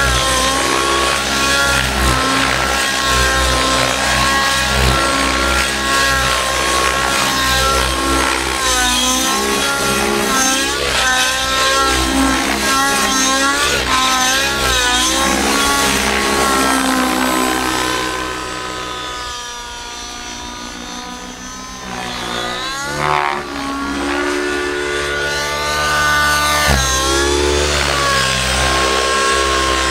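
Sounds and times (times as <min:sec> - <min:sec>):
model helicopter engine running hard: 0:00.0 - 0:29.9.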